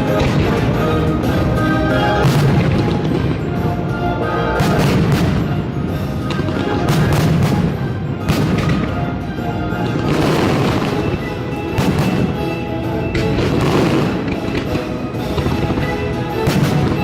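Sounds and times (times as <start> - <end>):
fireworks booming: 0.0 - 17.0
loud soundtrack music: 0.0 - 17.0.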